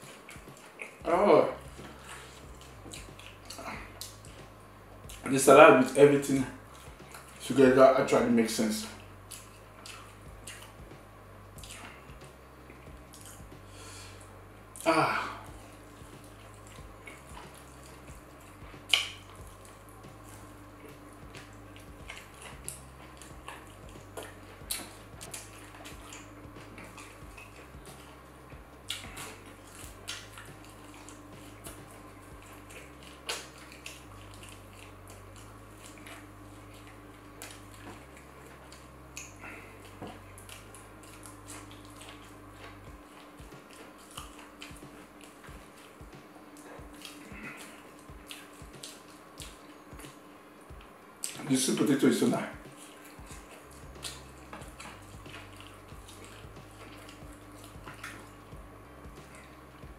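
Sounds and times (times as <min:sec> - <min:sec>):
chewing with wet mouth clicks: 0:00.0 - 0:05.3, 0:05.9 - 0:08.2, 0:08.8 - 0:59.9.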